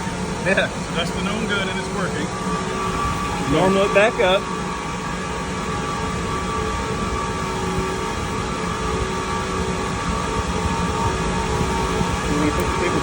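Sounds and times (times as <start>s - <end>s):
cooling fans whirring: 0.0s - 13.0s.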